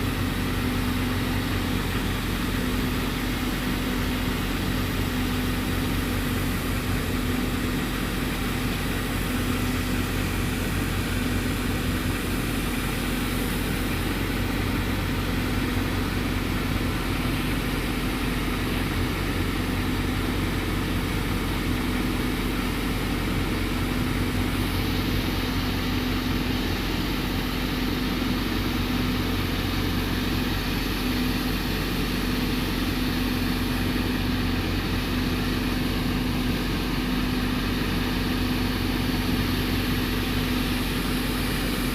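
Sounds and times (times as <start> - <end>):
fire engine motor humming: 0.0 - 41.9.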